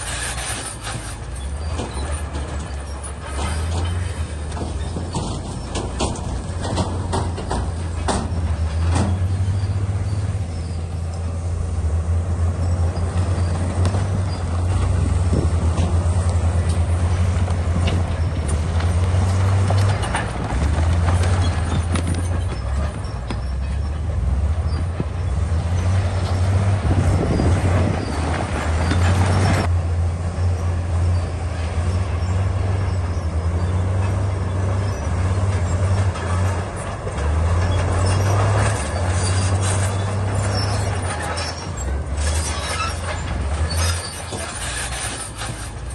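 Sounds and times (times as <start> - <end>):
bulldozer diesel engine drone: 0.0 - 45.9
tracks clanking and scraping: 0.0 - 45.9.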